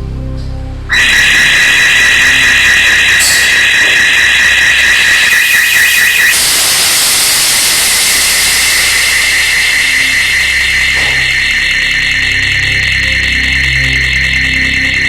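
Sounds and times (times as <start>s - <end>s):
fog generator hissing: 0.9s - 15.0s
high warbling alarm tone: 0.9s - 15.0s.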